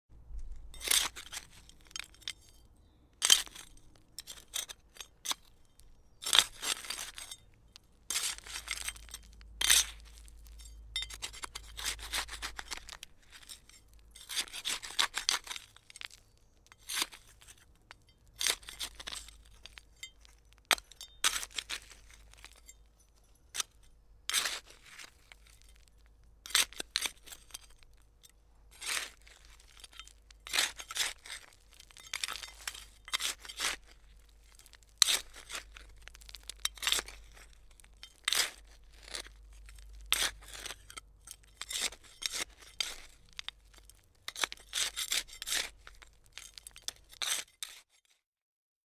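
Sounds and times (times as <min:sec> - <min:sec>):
hand trowel scraping soil: 0:00.6 - 0:28.0, 0:28.7 - 0:48.2.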